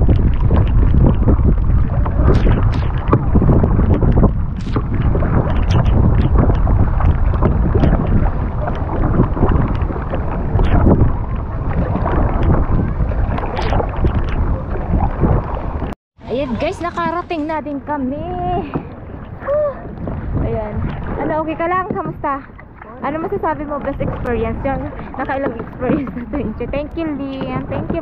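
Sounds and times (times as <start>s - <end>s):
kayak paddle splashing: 0.0s - 28.0s
wind rumbling on microphone: 0.0s - 28.0s.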